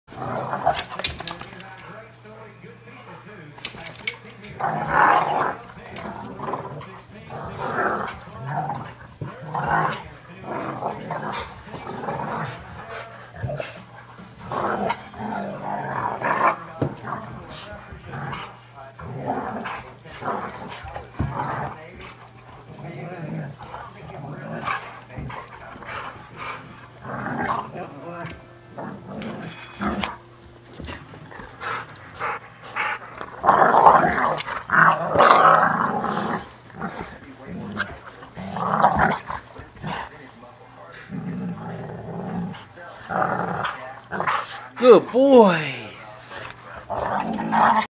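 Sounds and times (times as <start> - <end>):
dogs growling: 0.1 - 2.1, 3.2 - 44.8, 46.0 - 47.9.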